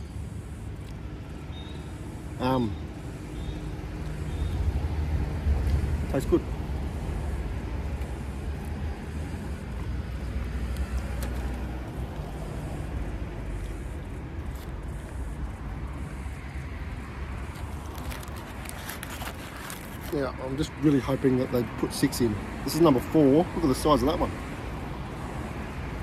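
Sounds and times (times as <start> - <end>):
distant road traffic: 0.0 - 26.0.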